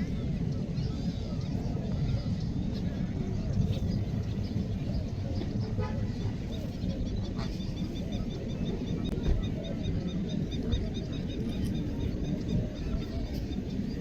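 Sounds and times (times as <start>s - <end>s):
low rumbling noise: 0.0s - 14.0s.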